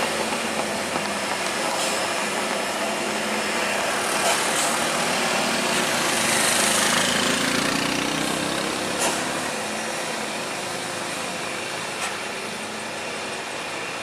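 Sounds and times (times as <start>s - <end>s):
vehicles passing: 0.0s - 14.0s.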